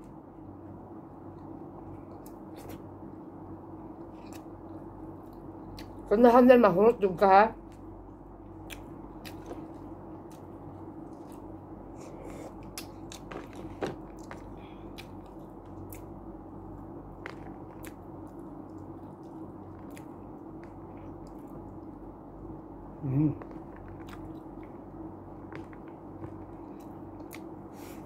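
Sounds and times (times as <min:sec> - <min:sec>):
steady low hum: 0:00.0 - 0:28.0
person chewing food: 0:01.3 - 0:03.0, 0:03.8 - 0:06.0, 0:07.7 - 0:22.1, 0:23.3 - 0:28.0.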